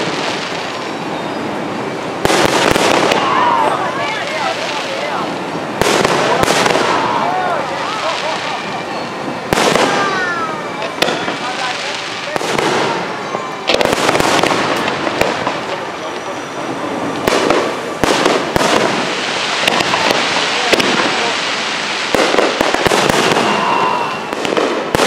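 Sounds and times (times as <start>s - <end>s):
fireworks bursting: 0.0s - 25.0s
fireworks crackling: 0.0s - 25.0s.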